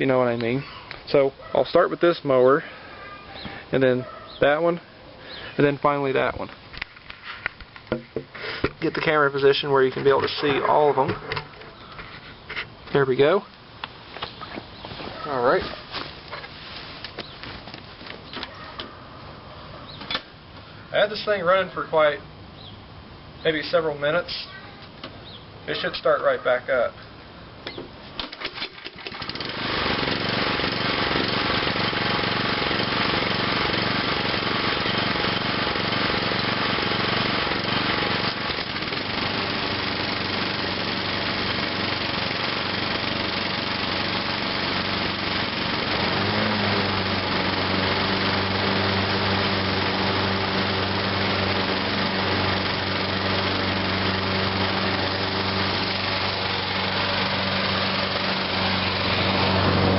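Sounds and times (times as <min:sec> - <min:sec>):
lawnmower engines running: 0:00.0 - 0:22.4, 0:23.5 - 0:59.9.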